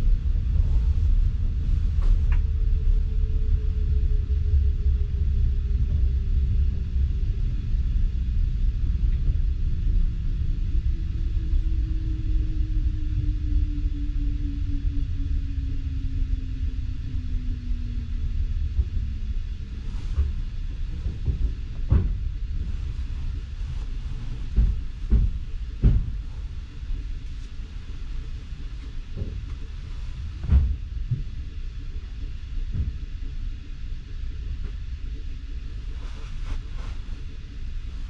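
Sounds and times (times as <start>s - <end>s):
train carriage rumble: 0.0s - 38.0s.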